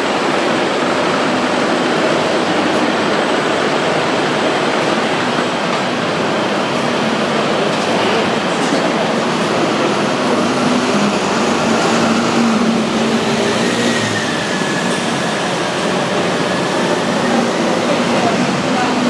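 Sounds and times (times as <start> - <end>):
bus diesel engines humming: 0.0 - 19.0.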